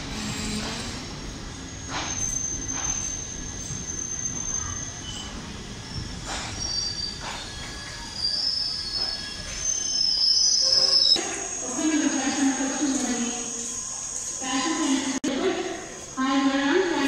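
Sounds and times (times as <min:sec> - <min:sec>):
train wheels squealing on rails: 0:00.0 - 0:15.2.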